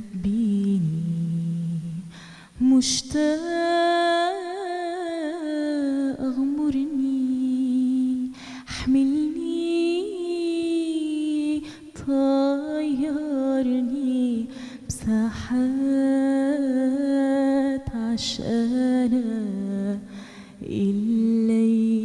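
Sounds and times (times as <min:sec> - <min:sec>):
woman singing with vibrato: 0:00.0 - 0:22.0.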